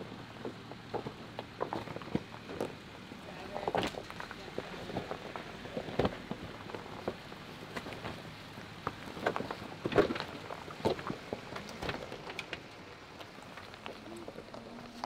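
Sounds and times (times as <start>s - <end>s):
tyres crunching over rocks: 0.0s - 15.0s.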